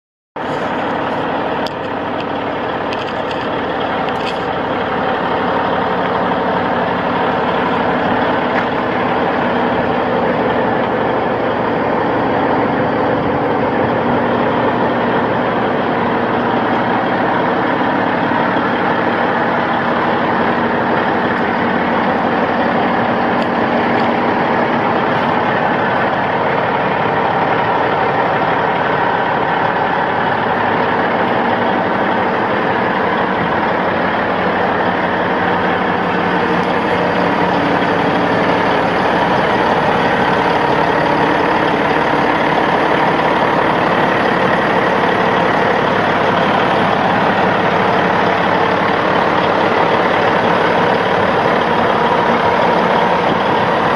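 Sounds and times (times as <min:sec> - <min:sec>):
diesel engine idling: 0:00.4 - 0:53.9.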